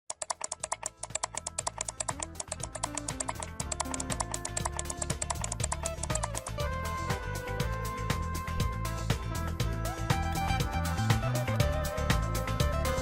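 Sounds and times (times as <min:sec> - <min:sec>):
music with ticking beat and bass: 0:00.1 - 0:13.0.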